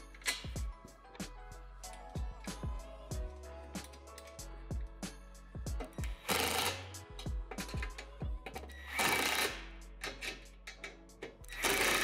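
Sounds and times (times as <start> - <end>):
music with a steady beat: 0.0 - 12.0.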